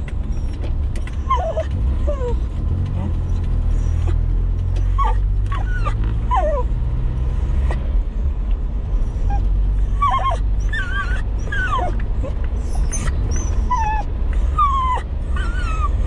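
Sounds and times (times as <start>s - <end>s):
car engine drone and road noise: 0.0s - 16.0s
dog whimpering: 0.2s - 6.7s, 9.0s - 16.0s.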